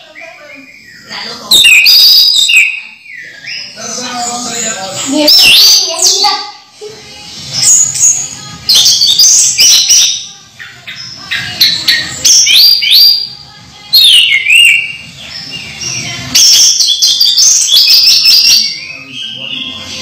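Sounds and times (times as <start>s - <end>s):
thrush singing: 0.6s - 20.0s.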